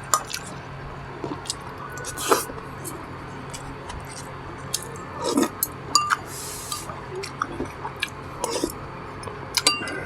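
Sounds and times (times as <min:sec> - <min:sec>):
person chewing food: 0:00.0 - 0:00.6, 0:01.2 - 0:10.0.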